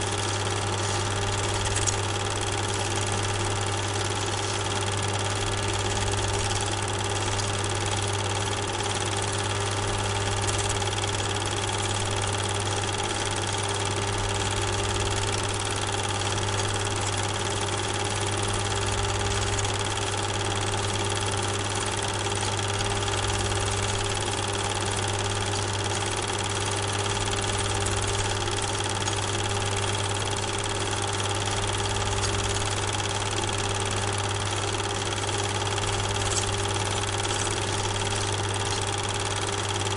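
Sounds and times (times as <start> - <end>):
mechanical hum with high whine: 0.0 - 39.9.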